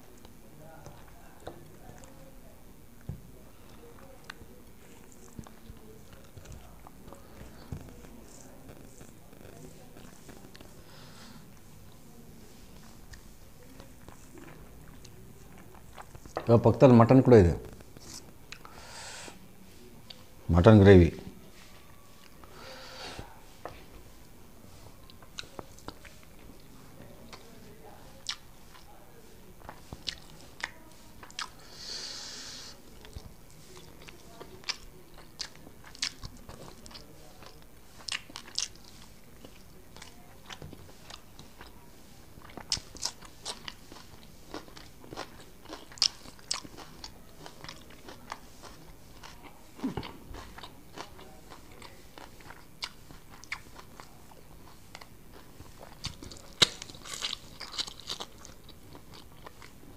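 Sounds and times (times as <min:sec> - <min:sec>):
man chewing food: 0:00.0 - 0:16.5, 0:17.6 - 0:20.4, 0:21.5 - 0:59.9.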